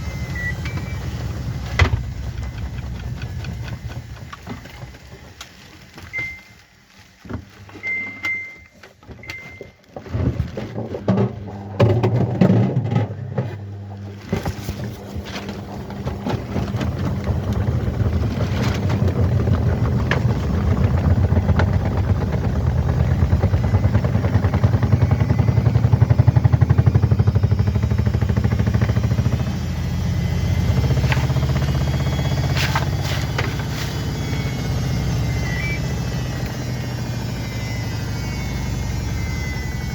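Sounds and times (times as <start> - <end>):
washing machine spinning: 0.0 - 6.6, 7.8 - 8.6, 10.7 - 39.9.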